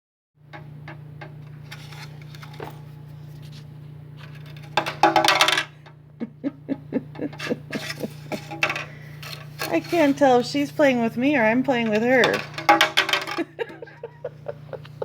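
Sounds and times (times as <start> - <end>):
steady low hum: 0.5 - 15.0.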